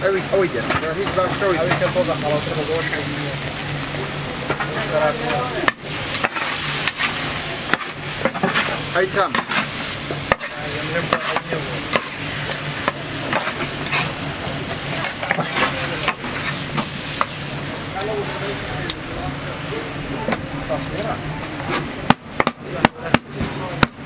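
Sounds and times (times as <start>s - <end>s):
food sizzling: 0.0s - 24.0s
steady low hum: 0.0s - 24.0s.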